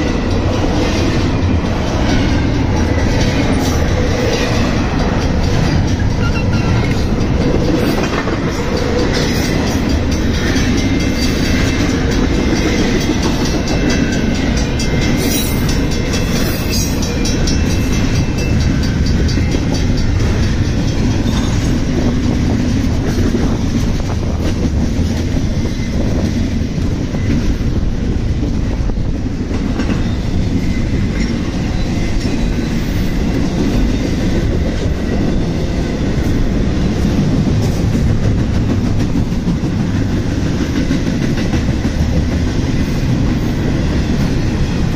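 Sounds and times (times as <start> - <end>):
freight train rumble: 0.0 - 44.9.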